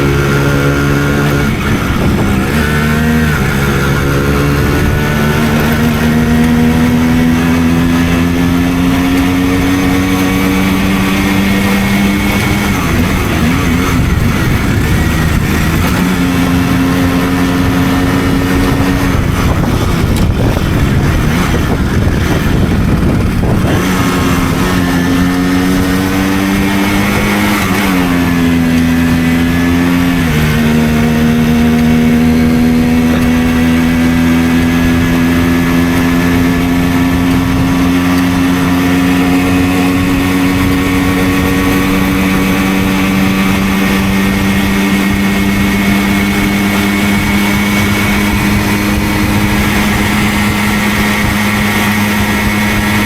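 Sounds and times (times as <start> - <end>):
two-stroke moped engine running: 0.0 - 53.0.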